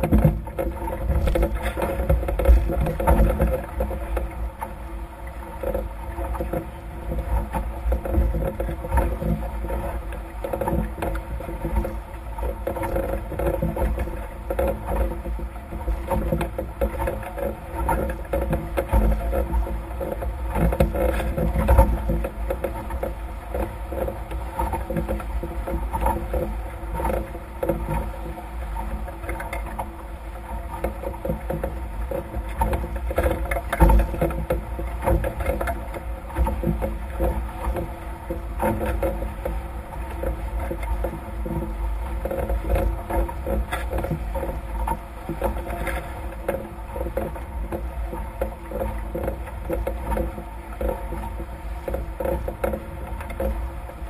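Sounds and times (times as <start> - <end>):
knocks and slaps on hull: 0.0 - 4.3, 5.6 - 28.2, 30.7 - 54.0
water splashing against hulls: 0.0 - 54.0
wind rumbling on microphone: 0.0 - 54.0.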